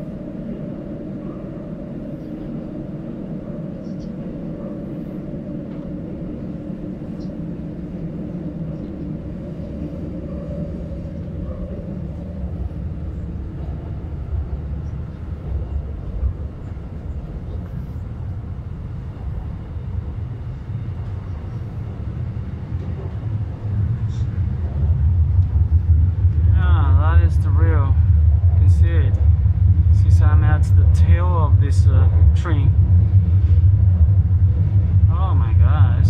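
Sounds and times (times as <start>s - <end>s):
hum: 0.0s - 36.0s
train wheels rumbling: 0.0s - 36.0s.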